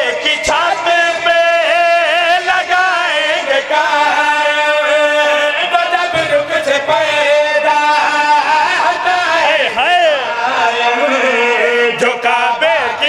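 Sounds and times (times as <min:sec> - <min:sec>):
group of men singing: 0:00.0 - 0:13.0.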